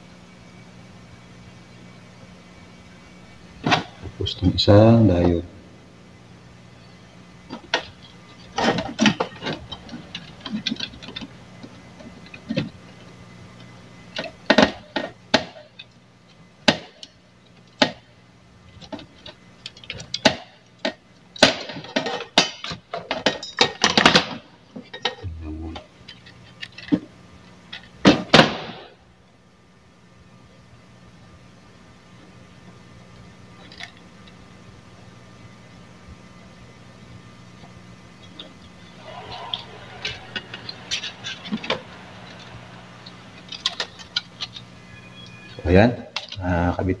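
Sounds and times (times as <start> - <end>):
steady low hum: 0.0 - 23.8, 24.4 - 47.0.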